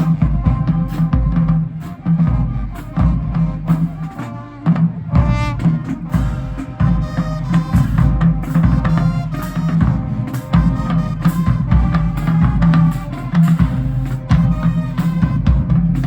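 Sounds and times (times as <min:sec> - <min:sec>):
bass drums pounding: 0:00.0 - 0:04.1, 0:05.0 - 0:16.0
marching band playing: 0:00.0 - 0:16.0.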